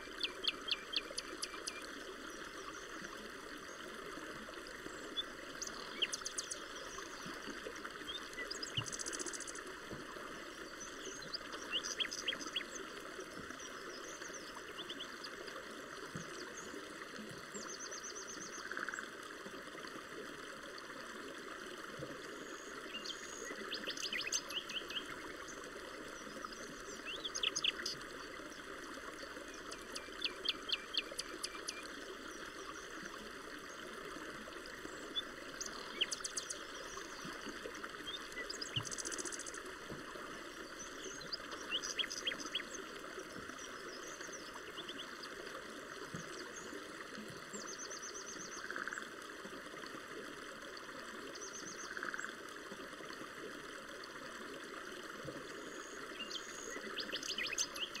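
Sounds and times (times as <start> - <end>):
songbirds chirping: 0.0 - 19.1, 22.2 - 49.1, 55.5 - 58.0.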